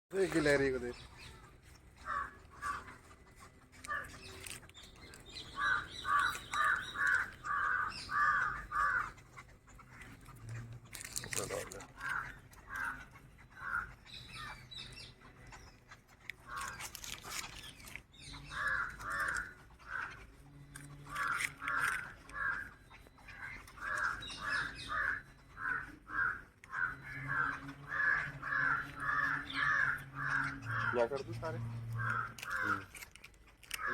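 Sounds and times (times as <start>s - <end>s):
crows cawing: 2.0s - 15.6s, 16.3s - 33.9s.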